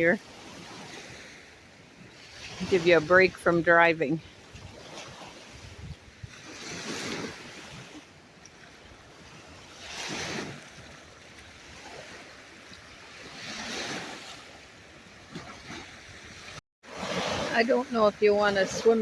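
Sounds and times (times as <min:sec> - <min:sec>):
small waves washing onto sand: 0:00.0 - 0:19.0.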